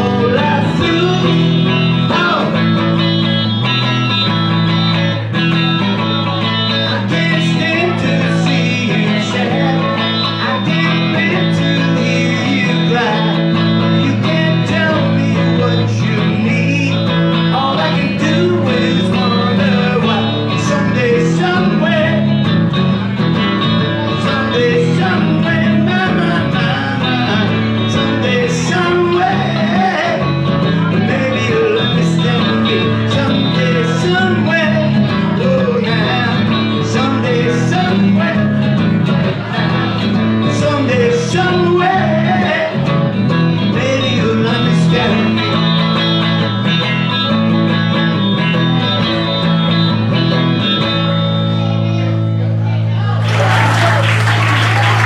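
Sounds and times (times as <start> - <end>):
electric guitar playing: 0.0 - 52.6, 53.2 - 55.0.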